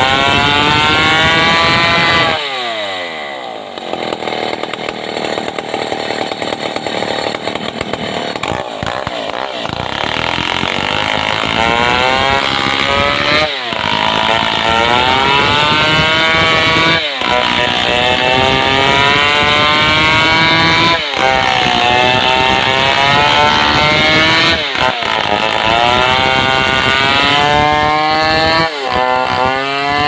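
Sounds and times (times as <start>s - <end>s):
chainsaw cutting log: 0.0s - 30.0s
chainsaw revving: 0.0s - 30.0s.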